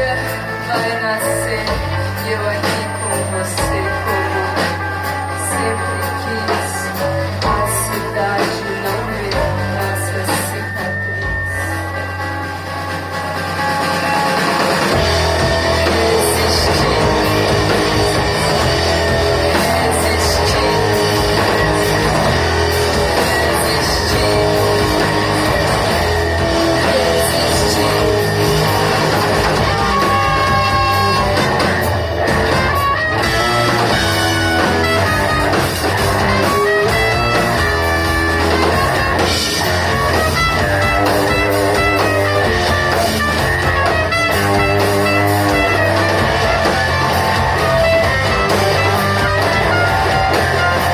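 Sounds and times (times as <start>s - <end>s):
electric guitar: 0.0s - 50.9s
rock band playing live: 0.0s - 50.9s
sustained bass line: 0.0s - 50.9s.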